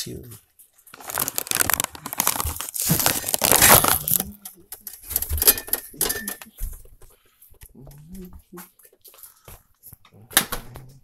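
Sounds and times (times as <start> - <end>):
crinkling and crumpling: 0.3 - 10.1.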